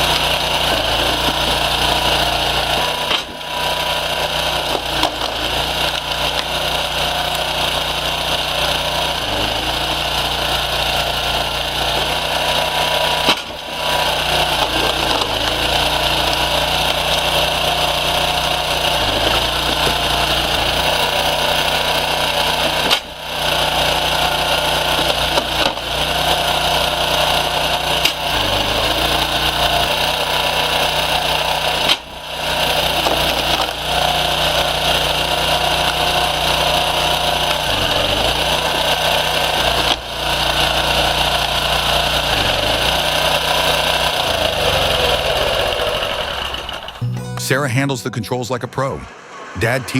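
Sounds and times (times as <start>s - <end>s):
woodworking machinery running: 0.0s - 47.0s.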